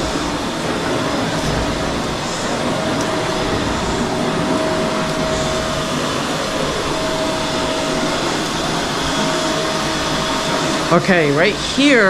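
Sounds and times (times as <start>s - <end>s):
vacuum cleaner running on carpet: 0.0s - 12.0s.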